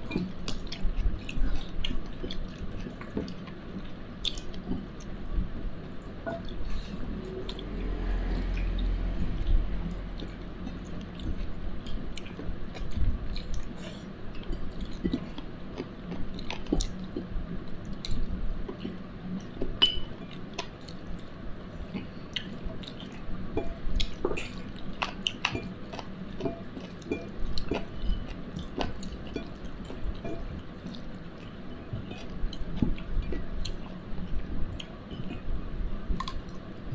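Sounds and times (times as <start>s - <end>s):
person chewing food: 0.0s - 5.2s, 5.8s - 21.3s, 21.9s - 35.6s, 36.2s - 36.7s.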